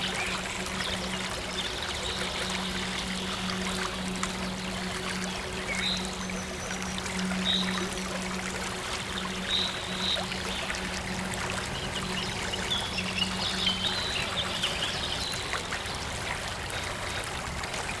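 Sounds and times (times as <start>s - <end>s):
birds chirping: 0.0s - 15.6s
low synth tone humming: 0.0s - 15.6s
water trickling: 0.0s - 18.0s.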